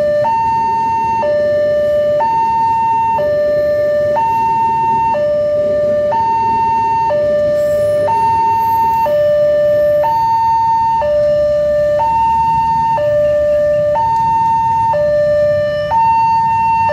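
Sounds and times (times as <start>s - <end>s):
two-tone level crossing alarm: 0.0s - 16.9s.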